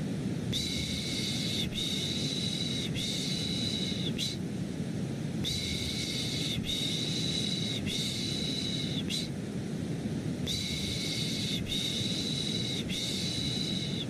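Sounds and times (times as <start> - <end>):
steady white noise: 0.0 - 14.0.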